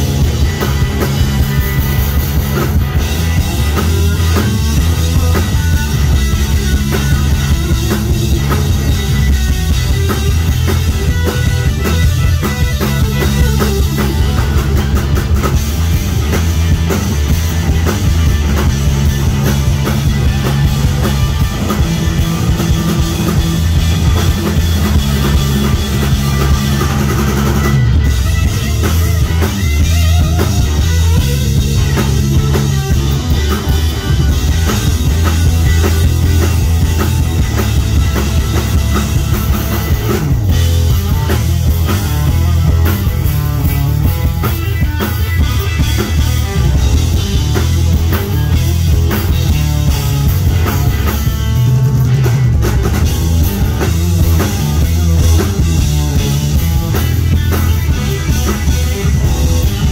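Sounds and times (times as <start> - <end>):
distorted electric guitar: 0.0 - 59.9
drum kit: 0.0 - 59.9
heavy bass line: 0.0 - 59.9.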